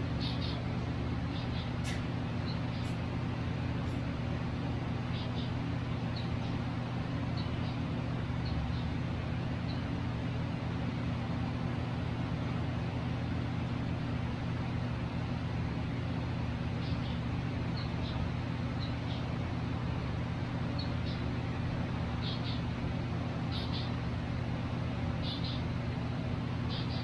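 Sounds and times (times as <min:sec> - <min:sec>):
birds chirping: 0:00.0 - 0:27.0
low mechanical hum: 0:00.0 - 0:27.0.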